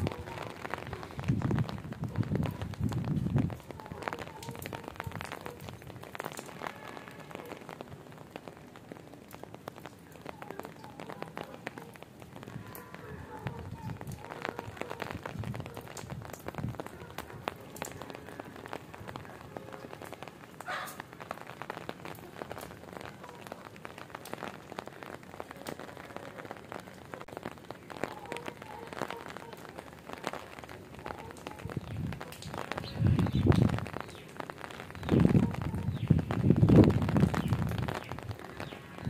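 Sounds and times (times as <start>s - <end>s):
rain on brick and concrete: 0.0s - 39.0s.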